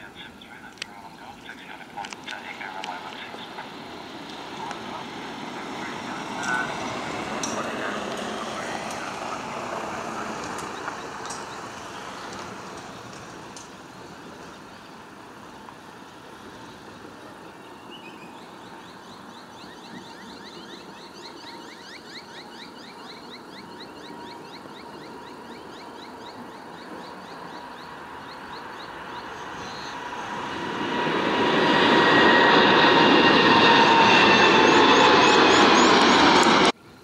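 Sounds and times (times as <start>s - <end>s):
jet engines roaring: 0.0s - 36.8s
jet engine whine: 0.0s - 37.0s.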